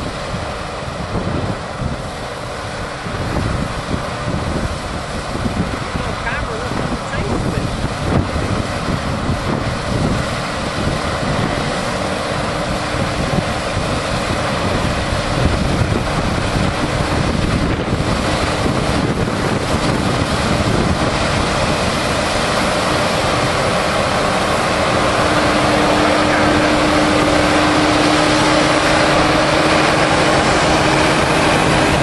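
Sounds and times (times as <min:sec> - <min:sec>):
combine harvester and tractor drone: 0:00.0 - 0:32.0
wind buffeting microphone: 0:00.0 - 0:32.0.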